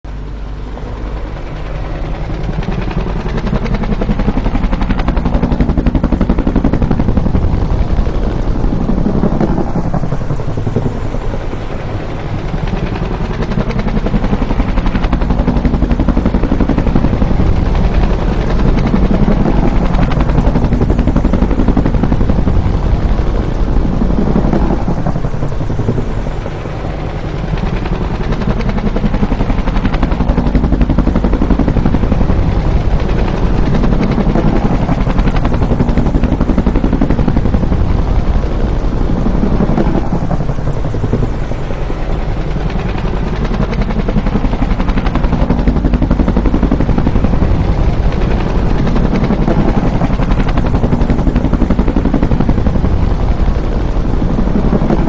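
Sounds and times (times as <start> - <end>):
helicopter rotor thudding: 0.8 - 55.0.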